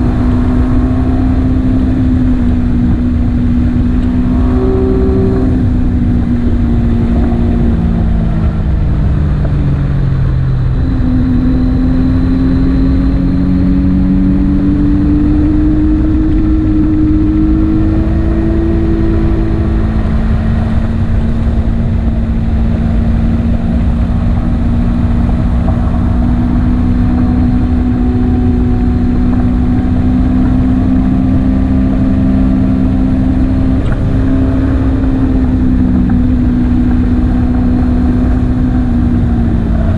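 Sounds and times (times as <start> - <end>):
heavy low rumble: 0.0 - 39.9
motorcycle engine running: 0.0 - 39.9.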